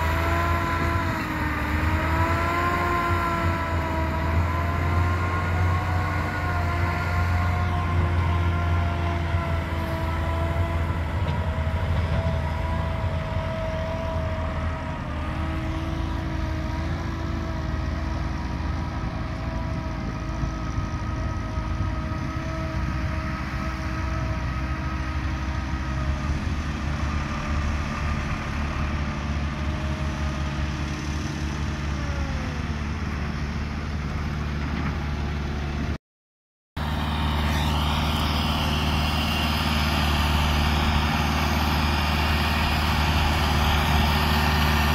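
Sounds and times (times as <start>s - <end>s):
diesel engines running: 0.0s - 36.0s, 36.8s - 44.9s
tractor engine under load: 0.0s - 36.0s, 36.8s - 44.9s.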